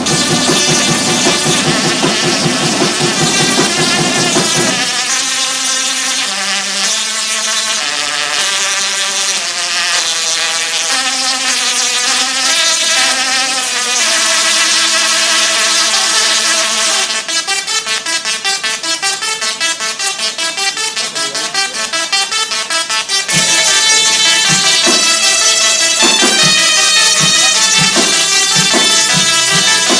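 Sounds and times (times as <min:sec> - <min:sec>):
tesla coil sparks buzzing a tune: 0:00.0 - 0:29.9.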